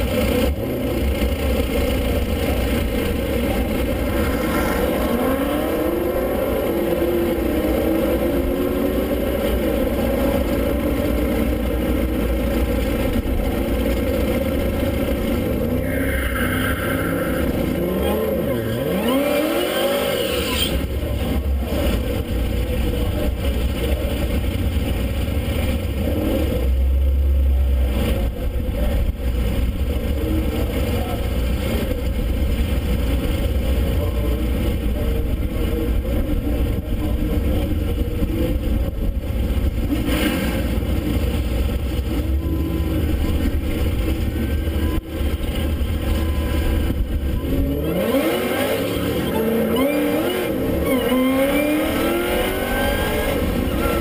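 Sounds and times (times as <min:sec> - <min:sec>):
car engine idling and accelerating: 0:00.0 - 0:54.0.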